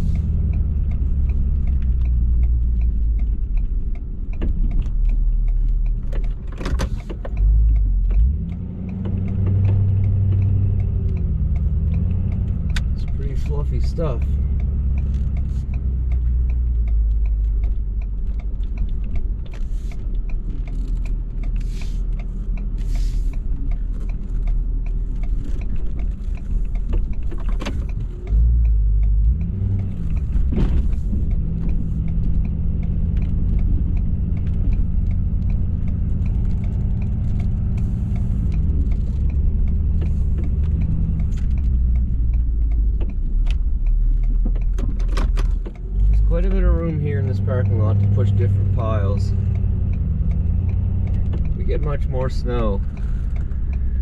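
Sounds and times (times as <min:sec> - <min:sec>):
diesel truck engine under load: 0:00.0 - 0:54.0.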